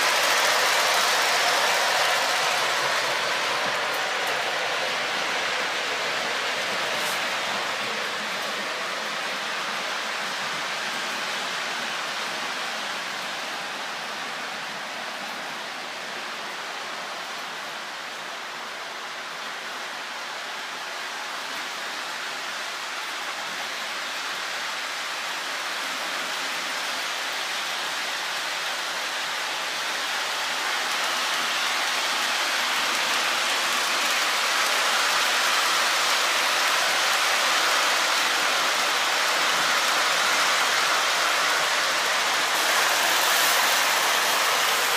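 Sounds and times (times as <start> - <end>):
model train wheels hissing on rails: 0.0 - 44.9.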